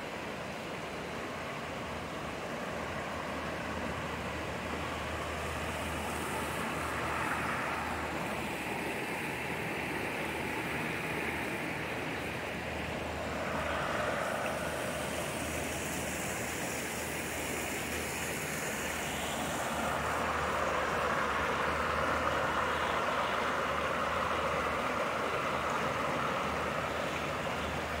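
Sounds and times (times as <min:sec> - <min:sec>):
creek rushing over stones: 0:00.2 - 0:28.0.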